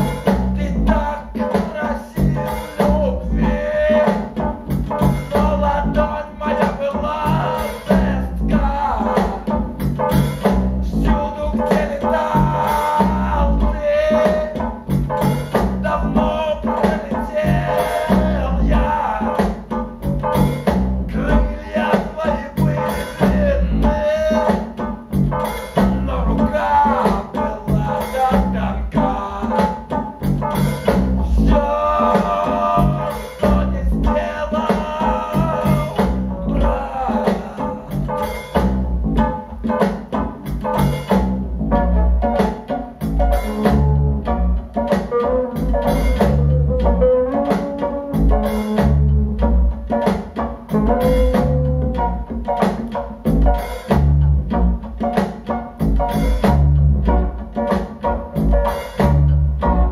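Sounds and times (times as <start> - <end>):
rock music through loudspeakers: 0.0 - 59.9.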